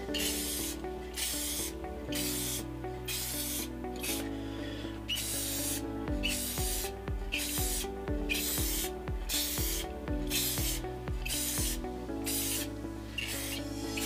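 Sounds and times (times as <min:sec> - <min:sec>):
background music with steady beat: 0:00.0 - 0:14.0
spray can hissing: 0:00.3 - 0:03.6, 0:05.1 - 0:14.0.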